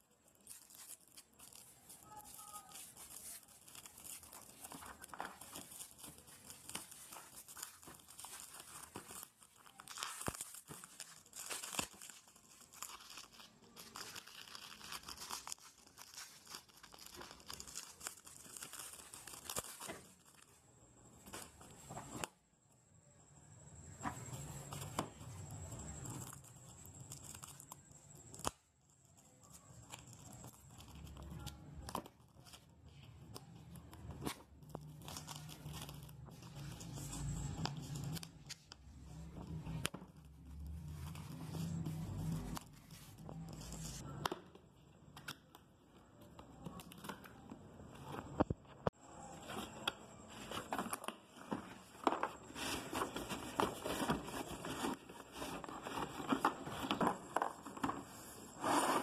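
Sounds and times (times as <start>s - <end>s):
plastic shrink-wrap tearing and crinkling: 0.0s - 22.4s, 26.0s - 44.1s, 49.2s - 59.0s.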